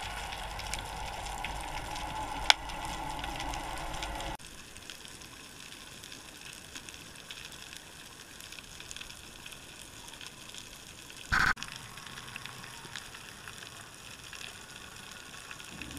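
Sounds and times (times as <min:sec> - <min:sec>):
crackling hiss of faint ticks: 0:00.0 - 0:15.9.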